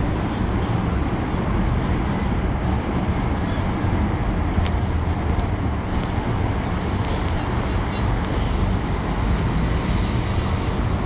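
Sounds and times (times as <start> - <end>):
low rumble of city traffic: 0.0 - 11.0.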